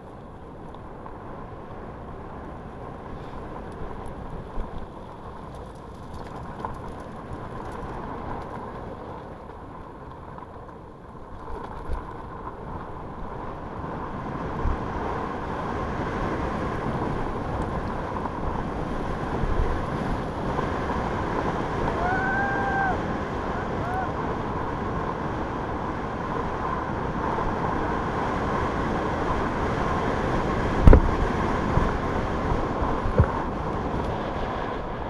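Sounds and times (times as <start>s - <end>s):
bike tyres rolling on dirt: 0.0s - 35.0s
wind rushing over microphone: 0.0s - 35.0s.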